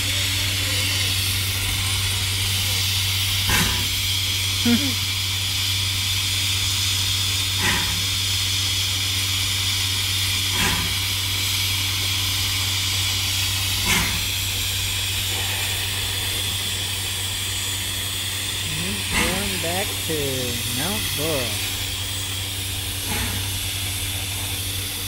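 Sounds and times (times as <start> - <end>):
steam locomotive hissing steam: 0.0 - 25.0.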